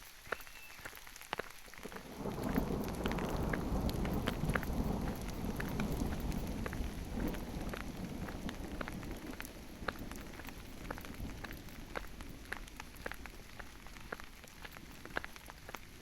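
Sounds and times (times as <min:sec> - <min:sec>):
rain falling in a forest: 0:00.0 - 0:16.0.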